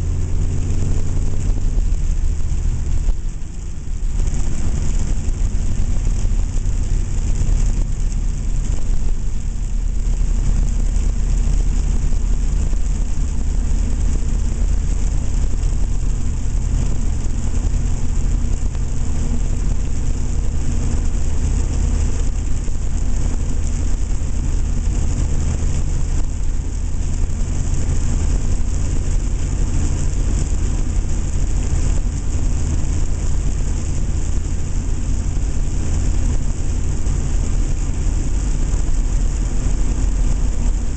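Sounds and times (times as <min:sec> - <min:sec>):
diesel engine rumbling in tunnel: 0:00.0 - 0:40.9.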